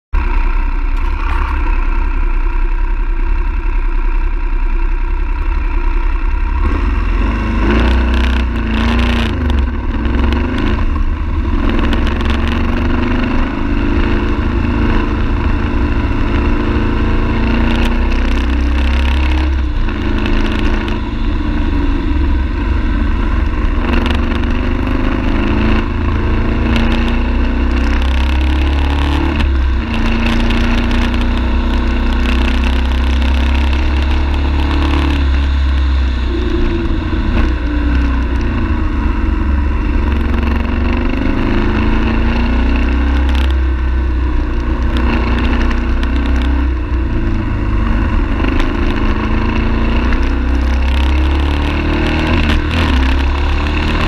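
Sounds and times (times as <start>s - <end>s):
motorcycle engine: 0.2s - 54.0s
wind and road noise: 0.2s - 54.0s.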